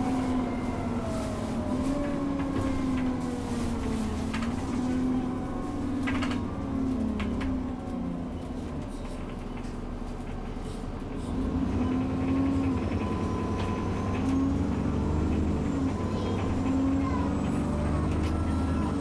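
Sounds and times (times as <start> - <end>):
bus diesel engine under load: 0.0 - 19.0.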